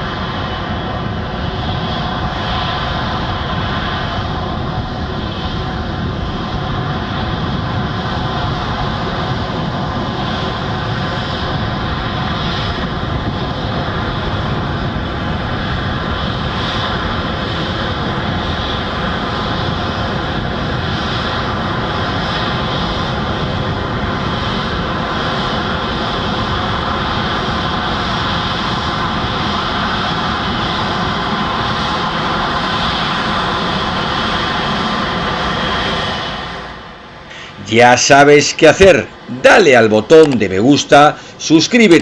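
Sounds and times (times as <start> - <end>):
jet engines roaring and whining: 0.0 - 42.0.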